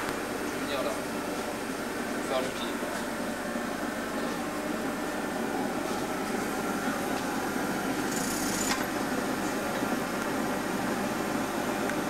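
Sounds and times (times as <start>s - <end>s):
furnace burner rushing: 0.0s - 12.0s.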